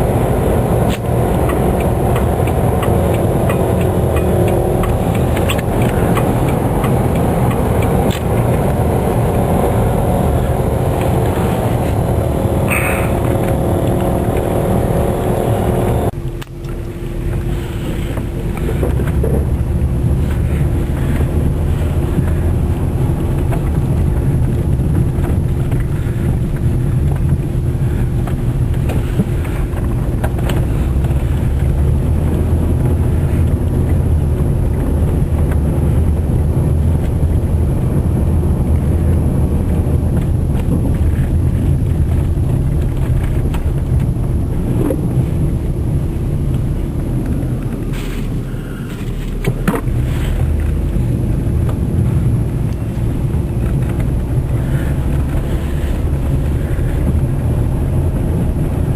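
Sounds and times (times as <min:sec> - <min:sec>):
car driving through snow: 0:00.0 - 0:58.9
pitched hum: 0:00.0 - 0:58.9.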